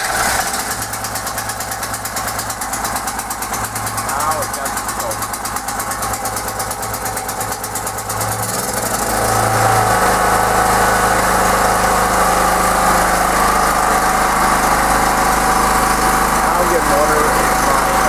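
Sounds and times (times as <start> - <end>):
portable generator engine running: 0.0 - 18.0.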